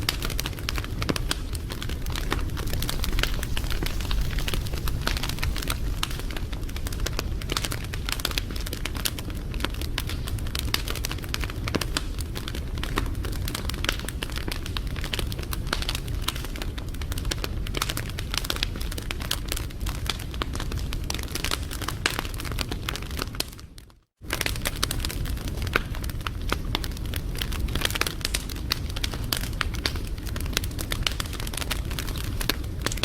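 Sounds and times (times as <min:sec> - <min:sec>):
low rumble of flames: 0:00.0 - 0:23.5, 0:24.2 - 0:33.0
wood fire crackling and popping: 0:00.0 - 0:33.0.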